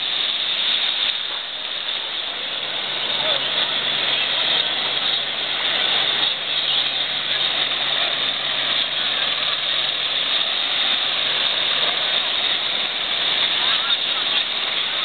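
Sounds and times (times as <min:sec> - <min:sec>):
surf washing in shallow water: 0:00.0 - 0:15.0.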